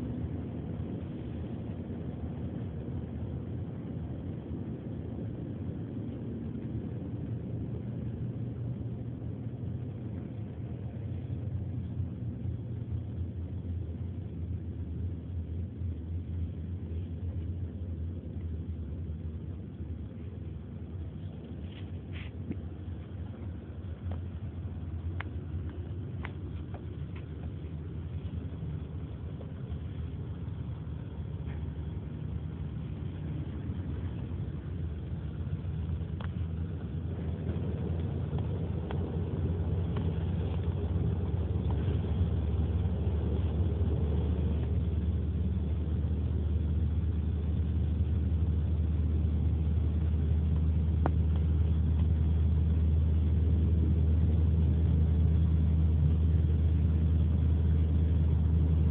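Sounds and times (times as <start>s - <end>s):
car engine and road rumble: 0.0s - 58.9s.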